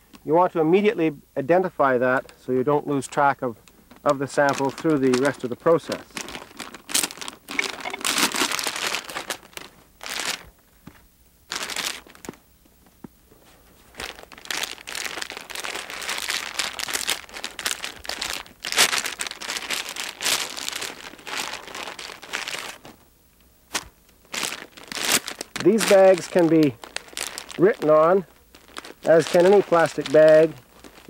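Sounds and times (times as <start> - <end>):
plastic bags crinkling: 3.0 - 12.4, 13.4 - 23.1, 23.7 - 31.0.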